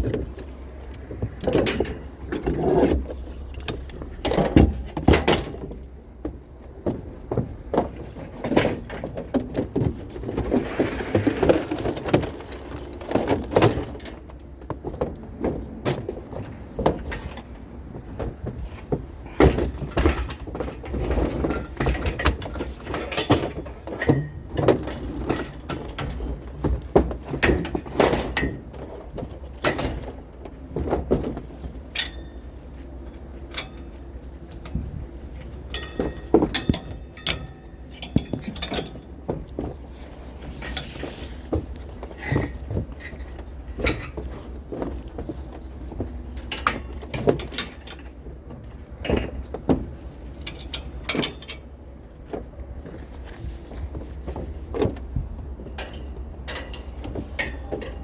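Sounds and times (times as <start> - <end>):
objects knocking and rattling: 0.0 - 58.0.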